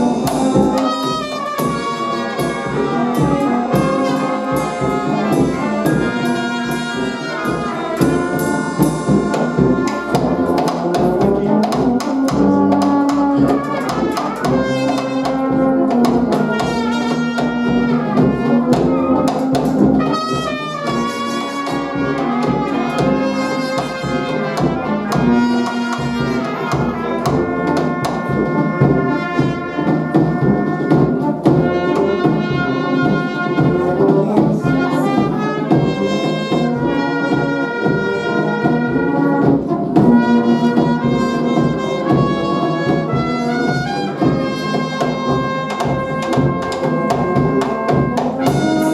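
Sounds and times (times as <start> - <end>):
brass band playing: 0.0 - 48.9.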